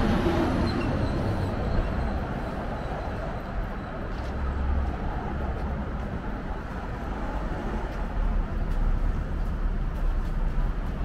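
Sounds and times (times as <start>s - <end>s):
traffic rumble of engines and tyres: 0.0s - 11.0s.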